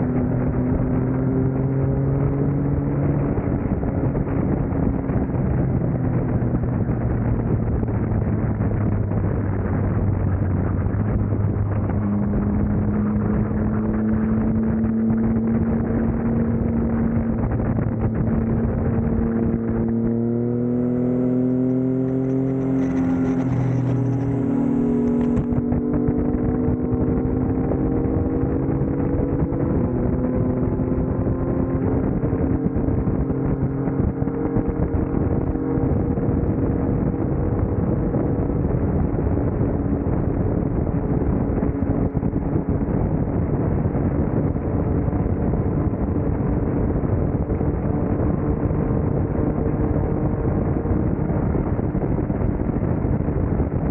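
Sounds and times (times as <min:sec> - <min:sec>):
motorcycle engine running: 0:00.0 - 0:53.9
wind rush: 0:00.0 - 0:53.9.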